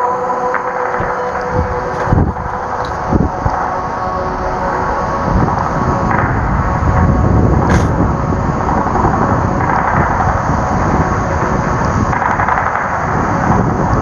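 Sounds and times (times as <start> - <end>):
wind buffeting microphone: 0.8 - 14.0
wind and breaking surf: 1.0 - 14.0.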